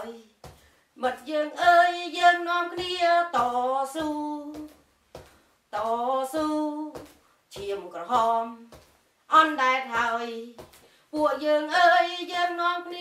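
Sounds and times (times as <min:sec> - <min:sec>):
woman singing unaccompanied: 0:00.0 - 0:04.8, 0:05.7 - 0:13.0.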